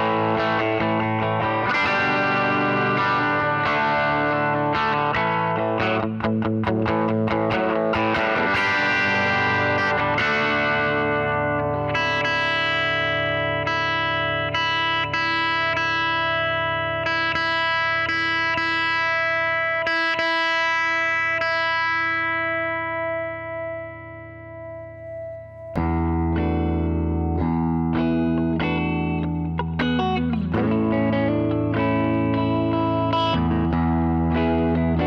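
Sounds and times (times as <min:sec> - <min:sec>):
overdriven electric guitar chords: 0:00.0 - 0:35.0.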